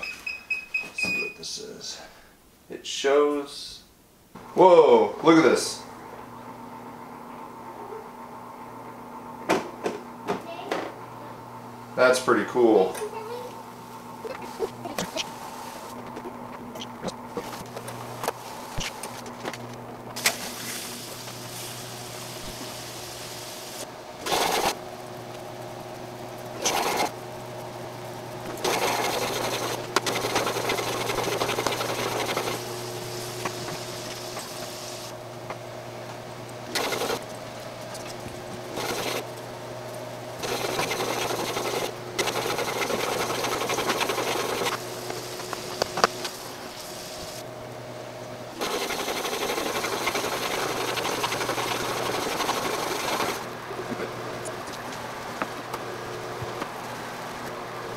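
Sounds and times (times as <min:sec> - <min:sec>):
steady motor hum: 0:04.4 - 0:57.9.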